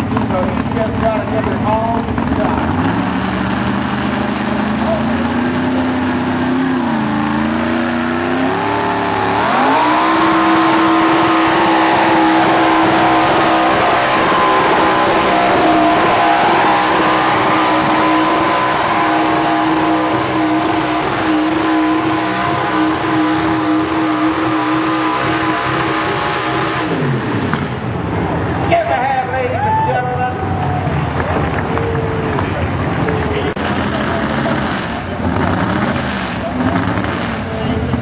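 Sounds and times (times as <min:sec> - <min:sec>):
tractor engine revving: 0:00.0 - 0:38.0.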